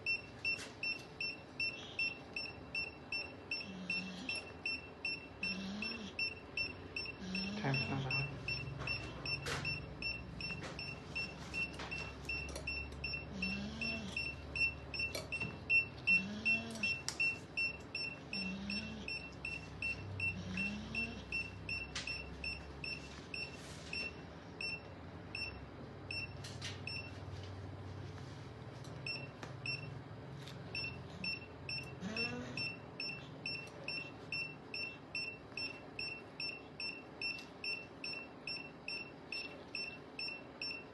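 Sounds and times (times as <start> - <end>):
patient monitor beeping: 0.0 - 27.4, 28.8 - 40.9.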